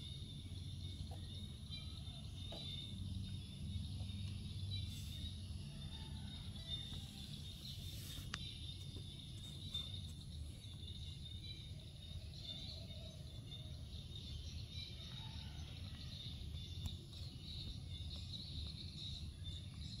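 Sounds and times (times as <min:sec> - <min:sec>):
insects chirping: 0:00.0 - 0:20.0
low steady hum: 0:00.0 - 0:20.0.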